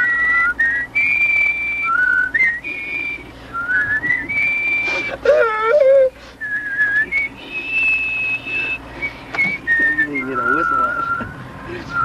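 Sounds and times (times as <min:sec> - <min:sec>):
person whistling a tune: 0:00.0 - 0:12.0.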